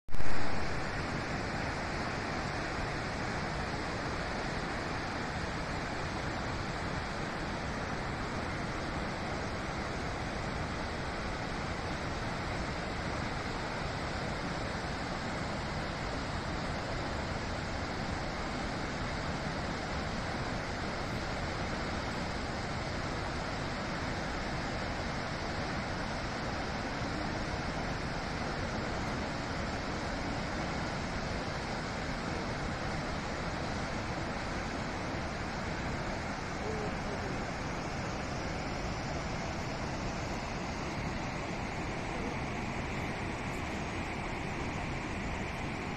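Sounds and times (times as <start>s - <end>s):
waterfall rushing: 0.1s - 45.9s.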